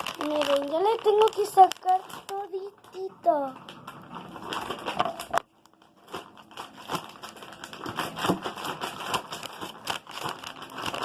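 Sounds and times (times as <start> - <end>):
slime squelching and crackling: 0.0 - 11.0.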